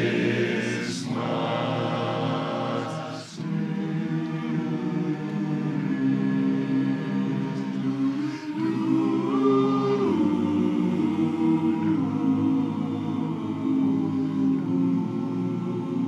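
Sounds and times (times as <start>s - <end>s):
barbershop chorus singing a cappella: 0.0s - 16.0s.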